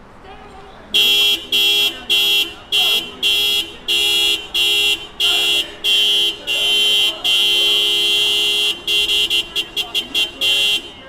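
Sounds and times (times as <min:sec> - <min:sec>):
car horn blasts: 0:00.9 - 0:11.0.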